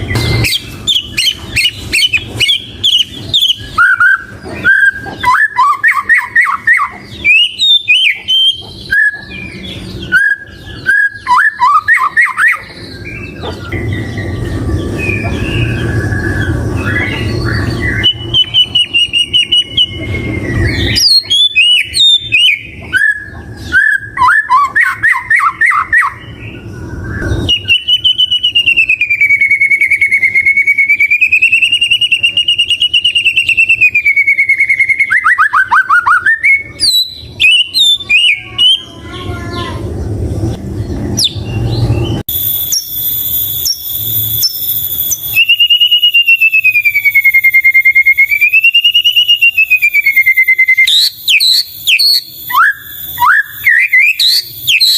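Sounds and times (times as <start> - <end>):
wavering bird whistle: 0.0 - 26.4, 27.1 - 38.9, 41.2 - 54.9
songbird singing with trills: 0.0 - 39.6, 40.8 - 54.9.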